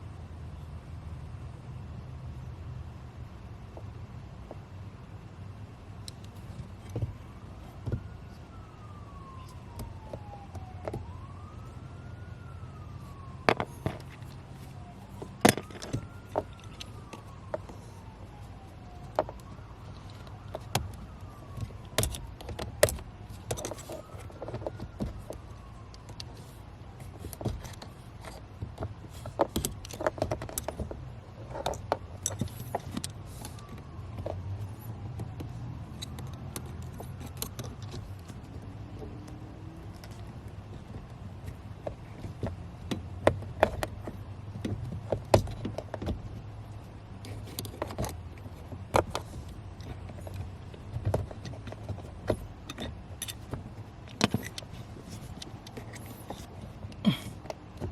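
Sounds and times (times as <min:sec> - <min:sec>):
faint siren wailing: 0:05.3 - 0:57.9.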